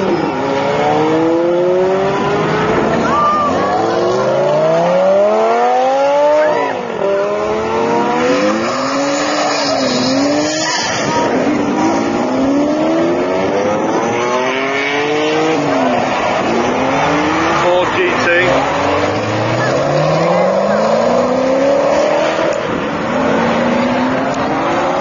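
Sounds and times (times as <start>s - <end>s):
sports car engines accelerating: 0.0s - 25.0s.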